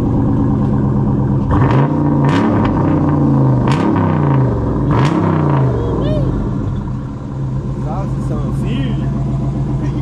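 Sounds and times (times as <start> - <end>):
car engine throttle blips: 0.0 - 10.0.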